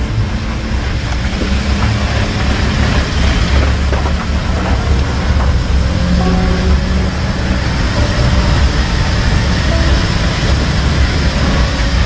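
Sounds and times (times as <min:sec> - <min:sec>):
vehicle rumbling on gravel: 0:00.0 - 0:12.0.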